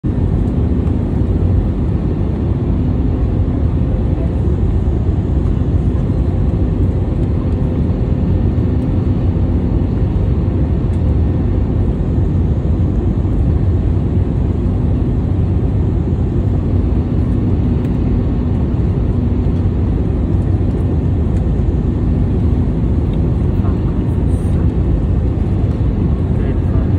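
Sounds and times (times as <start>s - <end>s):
jet engines and airflow rumble: 0.0s - 26.9s.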